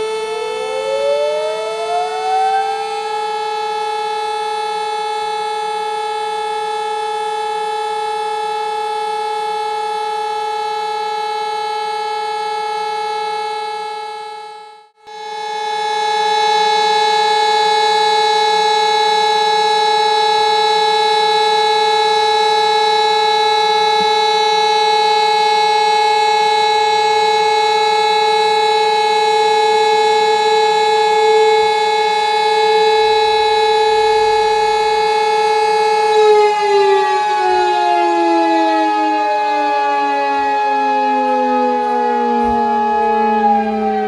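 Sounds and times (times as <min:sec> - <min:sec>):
electromechanical siren: 0:00.0 - 0:44.0.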